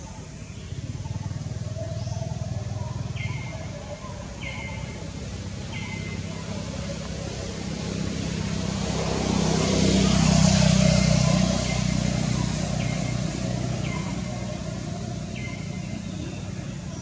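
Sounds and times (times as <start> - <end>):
motor vehicle passing by: 0.0 - 17.0.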